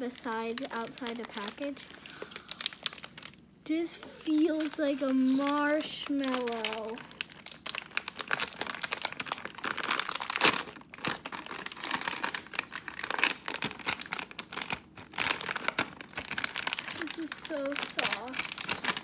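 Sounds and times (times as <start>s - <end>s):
plastic packet crinkling: 0.0s - 19.0s.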